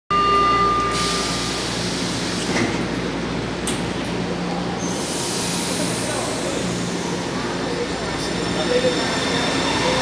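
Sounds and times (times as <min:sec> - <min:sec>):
train wheels rumbling on rail: 0:00.9 - 0:10.0.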